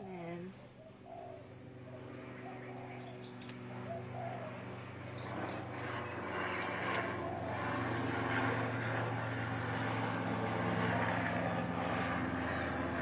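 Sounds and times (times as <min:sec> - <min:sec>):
low engine-like drone: 0:00.0 - 0:13.0.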